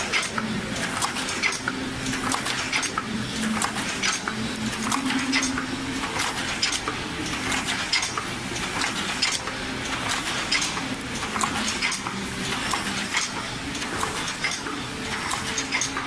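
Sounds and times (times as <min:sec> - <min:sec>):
low machine hum: 0:00.0 - 0:15.3
machine clattering clicks: 0:00.0 - 0:16.0.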